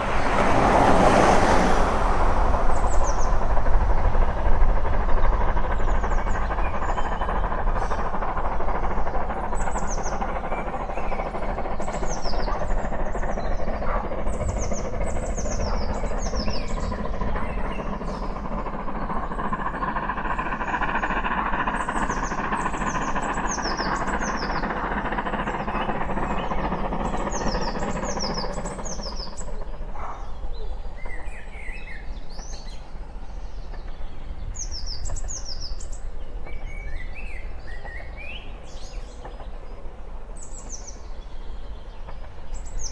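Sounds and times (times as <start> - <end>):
steam locomotive running: 0.0 - 42.9
small birds chirping: 4.9 - 42.9.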